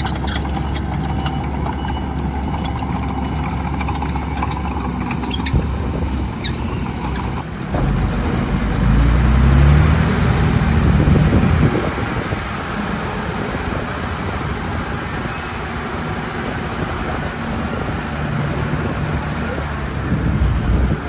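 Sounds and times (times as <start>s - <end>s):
heavy machinery diesel engine: 0.0s - 21.0s.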